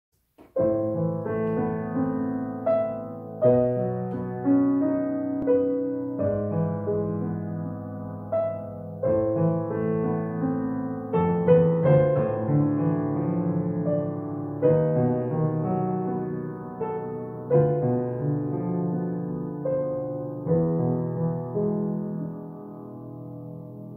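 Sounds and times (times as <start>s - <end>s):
slow solo piano melody: 0.3s - 23.9s.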